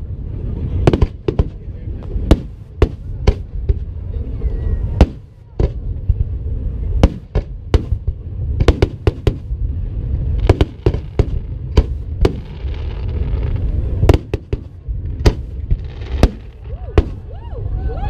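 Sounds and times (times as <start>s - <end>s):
crackling hiss of fireworks: 0.0s - 18.0s
low rumble: 0.0s - 18.0s
fireworks bangs: 0.6s - 4.0s, 4.8s - 17.4s.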